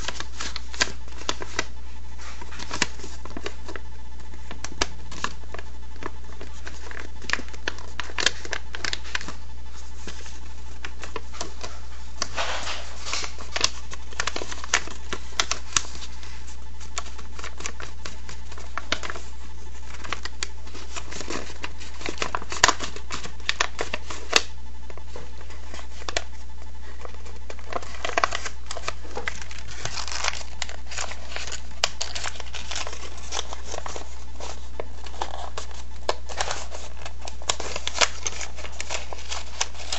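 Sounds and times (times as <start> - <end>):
paper crinkling and crackling: 0.0 - 39.9
steady low hum: 0.0 - 39.9.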